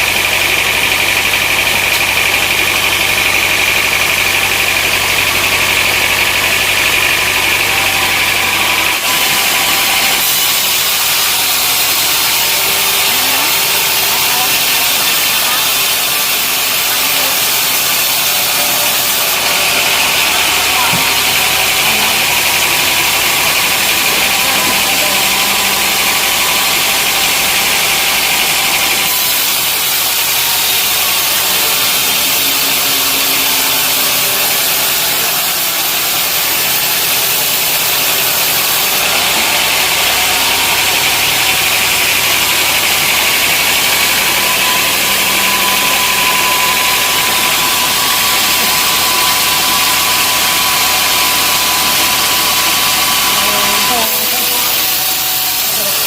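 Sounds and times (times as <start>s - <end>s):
sawmill engine running: 0.0s - 56.0s
loud high hiss: 1.2s - 56.0s.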